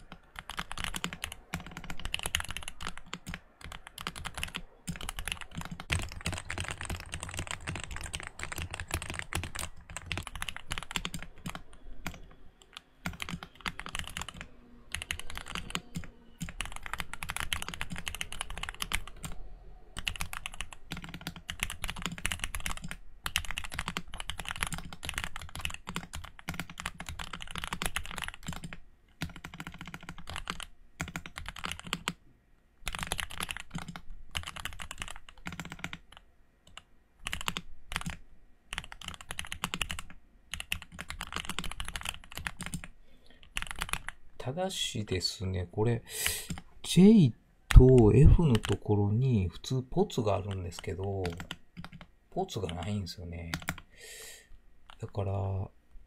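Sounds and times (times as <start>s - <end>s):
mechanical keyboard typing: 0.0s - 32.2s, 32.8s - 44.2s, 47.7s - 48.8s, 50.2s - 53.9s.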